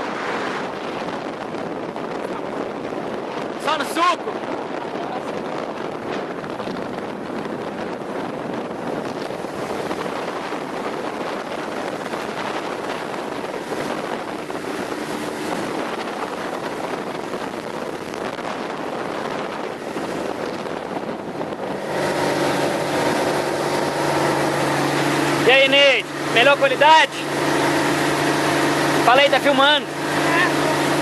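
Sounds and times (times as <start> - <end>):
boat engine hum: 0.0 - 31.0
water noise: 0.0 - 31.0
wind on microphone: 0.0 - 31.0.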